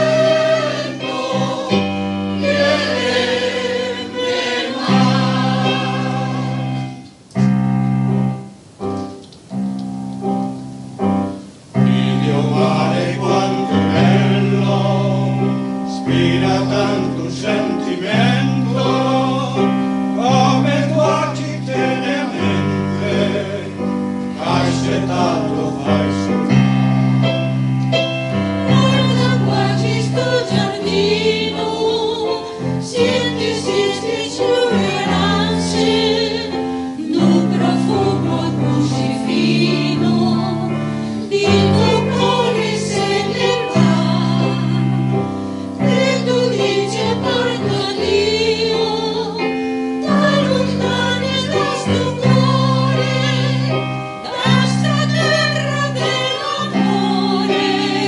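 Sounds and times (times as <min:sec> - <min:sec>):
mixed choir singing: 0:00.0 - 0:07.1, 0:11.8 - 0:26.8, 0:28.3 - 0:58.0
piano accompaniment: 0:00.0 - 0:58.0.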